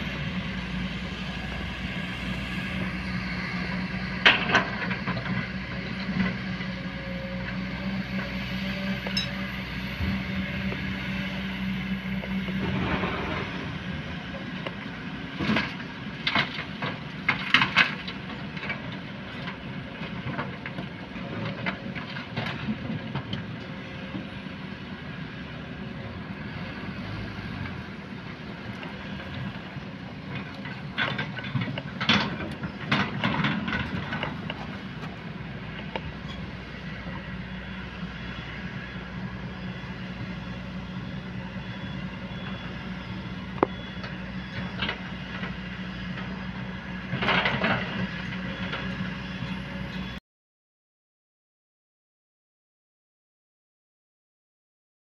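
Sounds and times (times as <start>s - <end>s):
excavator diesel engine running: 0.0s - 50.2s.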